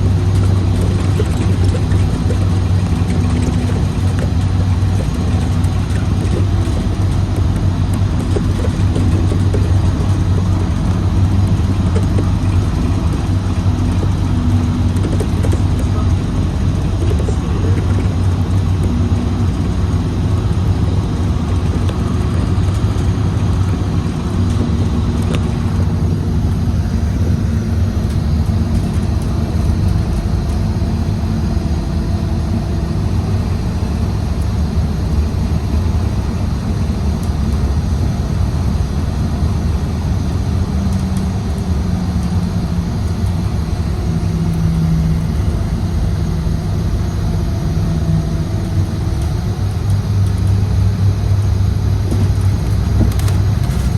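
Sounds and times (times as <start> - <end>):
bus engine droning: 0.0 - 53.9.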